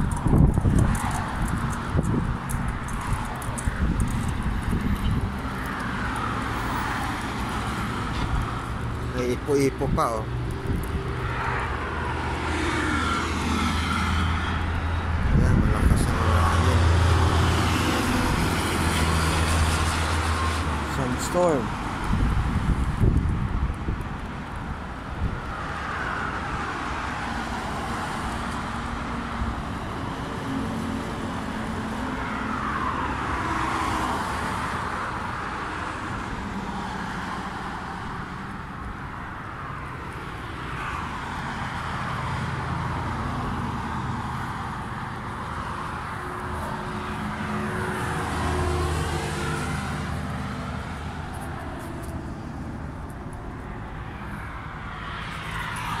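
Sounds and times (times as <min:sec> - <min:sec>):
cars passing on road: 0:00.0 - 0:56.0.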